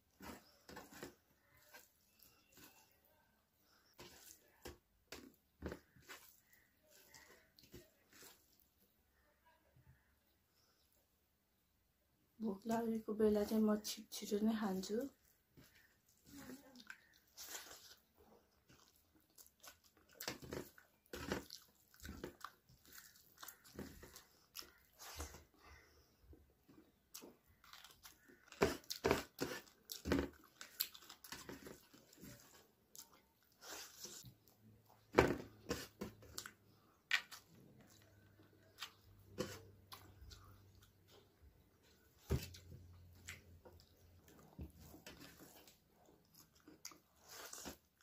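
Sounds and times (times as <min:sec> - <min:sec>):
chewing and crunching food: 0:00.0 - 0:09.2, 0:14.7 - 0:48.0.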